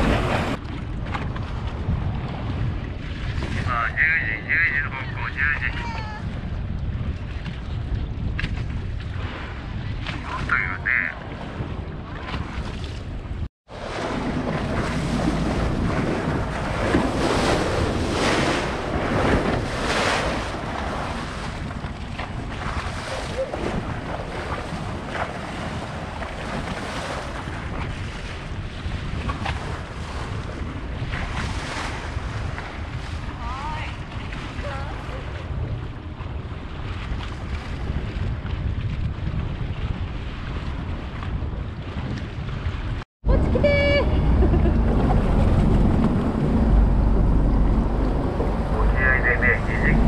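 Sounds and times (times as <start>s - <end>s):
waves splashing against boat: 0.0s - 50.0s
wind buffeting microphone: 0.0s - 50.0s.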